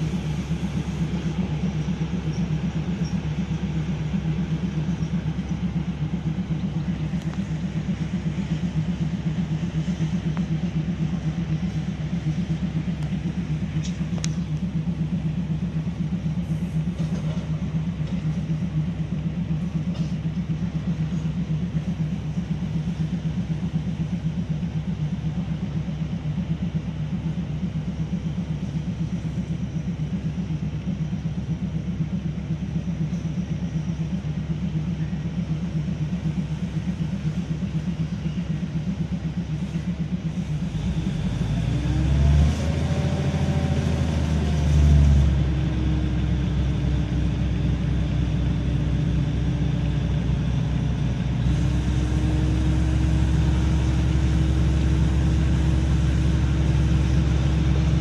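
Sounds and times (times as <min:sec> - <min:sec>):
diesel train rumbling: 0:00.0 - 0:58.0.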